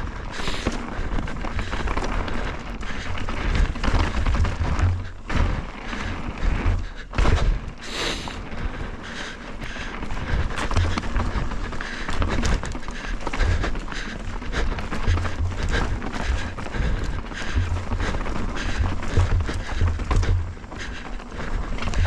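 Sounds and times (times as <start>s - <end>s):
bike rattling and knocking: 0.0s - 22.0s
bike tyres crunching on rock: 0.0s - 22.0s.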